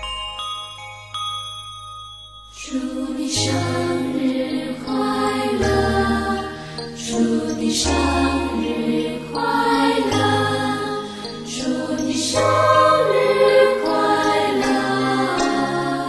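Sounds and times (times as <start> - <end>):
slow song with sustained chords: 2.6 - 16.0.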